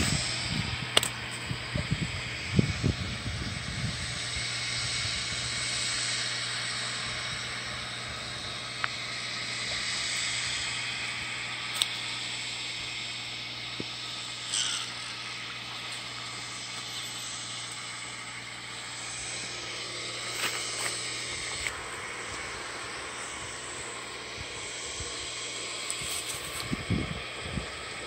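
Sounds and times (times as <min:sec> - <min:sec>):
low hum: 0:00.0 - 0:28.0
outdoor hiss: 0:00.0 - 0:28.0.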